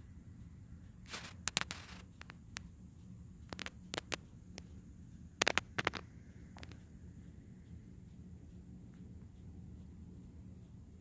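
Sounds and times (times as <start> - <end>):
faint low hum: 0.0 - 11.0
sharp clicks and ticks: 0.3 - 11.0.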